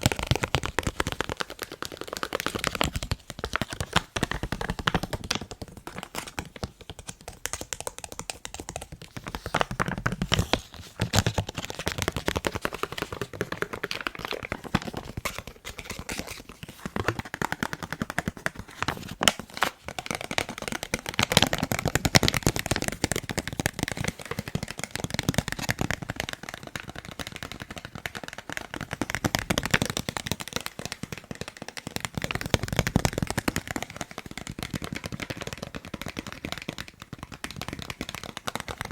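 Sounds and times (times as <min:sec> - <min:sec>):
fast tapping on a face mask: 0:00.0 - 0:38.9.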